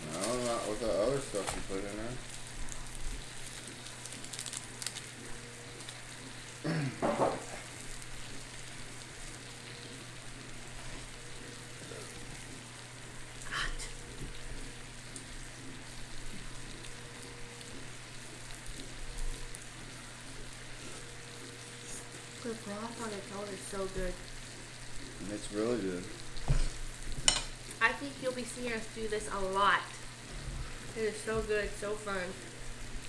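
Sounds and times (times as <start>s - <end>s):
food sizzling on a grill: 0.0s - 33.0s.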